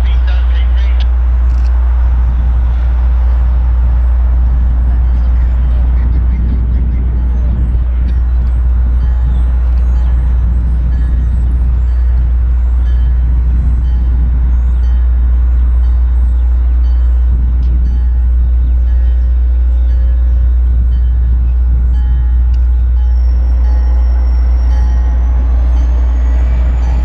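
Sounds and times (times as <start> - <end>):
distant diesel locomotive rumble: 0.0 - 27.0.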